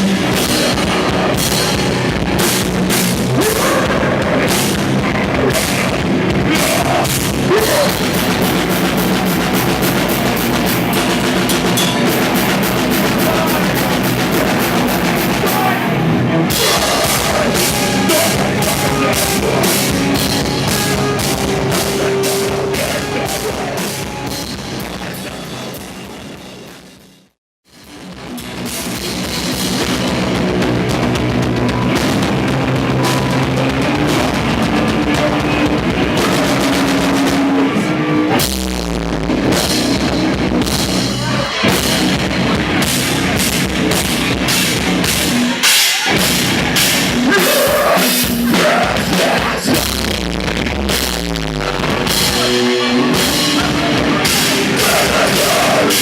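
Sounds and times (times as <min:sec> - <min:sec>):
live metal band playing: 0:00.0 - 0:56.0.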